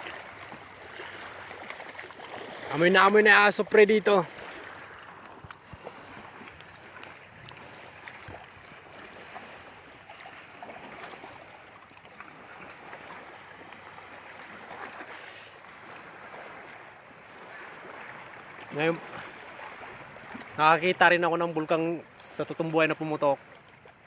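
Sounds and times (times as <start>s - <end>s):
small lake waves: 0.0s - 24.0s
wind: 0.0s - 24.0s.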